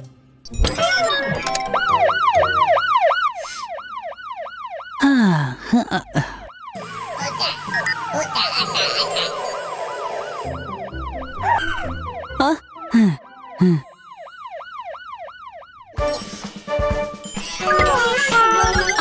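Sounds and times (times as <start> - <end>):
cartoon siren wailing: 0.7 - 16.0, 17.4 - 19.0.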